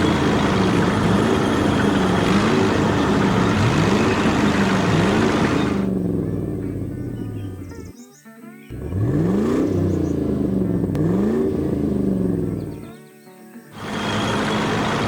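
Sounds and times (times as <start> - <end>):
motor engine revving: 0.0 - 7.9, 8.7 - 13.0, 13.7 - 15.0.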